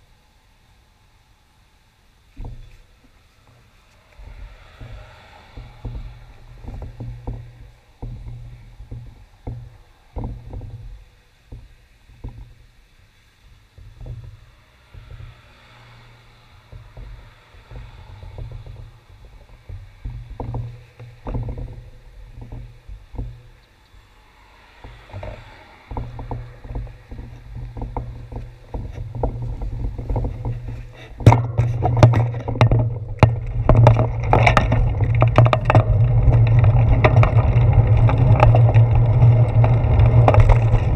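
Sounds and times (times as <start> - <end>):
bicycle rolling on concrete: 0.0 - 40.9
low uneven rumble: 0.0 - 40.9.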